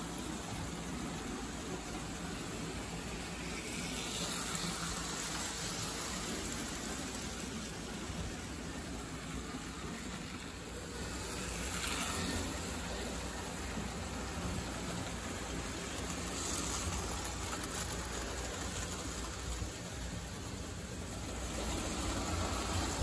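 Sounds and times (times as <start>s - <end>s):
model train whirring and rumbling: 0.0s - 23.0s.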